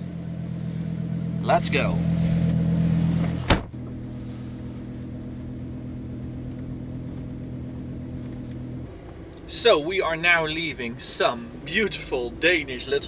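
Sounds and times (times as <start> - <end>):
car engine droning inside cabin: 0.0 - 13.0.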